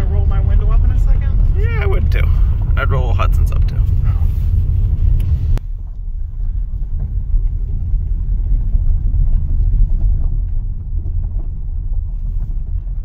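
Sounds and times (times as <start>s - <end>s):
car rolling over gravel: 0.0s - 13.0s.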